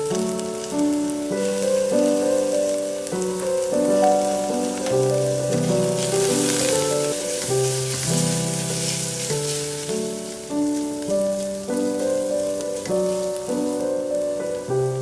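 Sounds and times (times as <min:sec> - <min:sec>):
food sizzling in hot oil: 0:00.0 - 0:15.0
piano music: 0:00.0 - 0:15.0.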